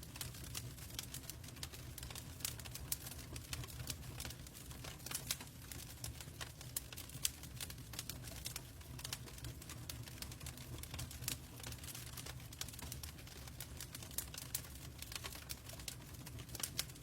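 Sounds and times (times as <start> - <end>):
fire crackling and popping: 0.0 - 17.0
low fire rumble: 0.0 - 17.0.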